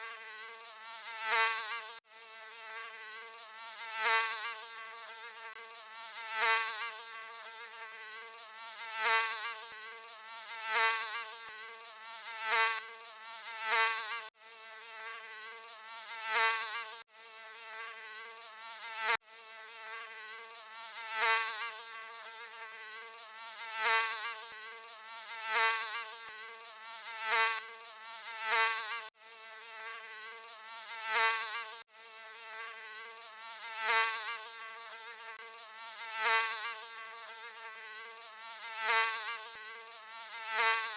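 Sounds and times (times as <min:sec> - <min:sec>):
mosquito buzzing: 0:00.0 - 0:40.9.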